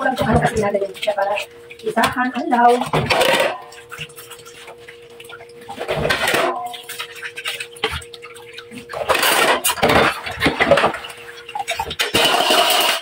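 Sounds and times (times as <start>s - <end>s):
tap water splashing into basin: 0.0s - 12.6s
steady humming tone: 0.0s - 13.0s.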